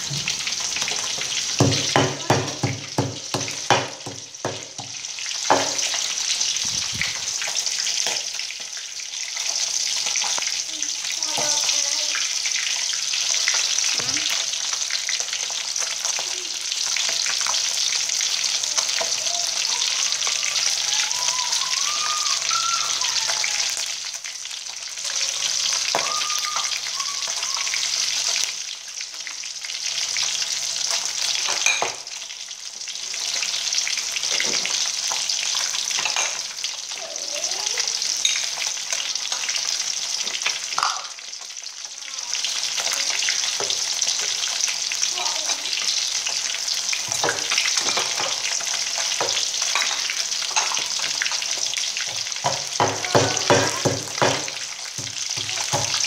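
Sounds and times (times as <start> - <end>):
hot oil sizzling and crackling: 0.0 - 56.0.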